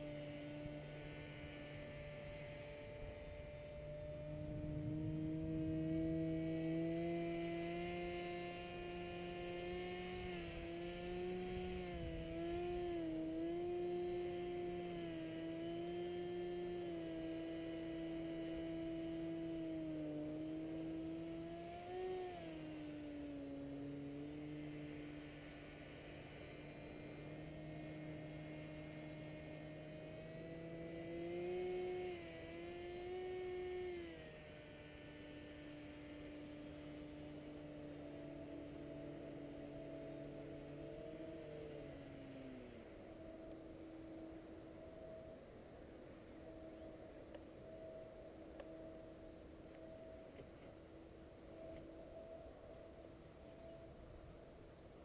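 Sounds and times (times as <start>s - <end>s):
paramotor engine humming: 0.0s - 55.0s.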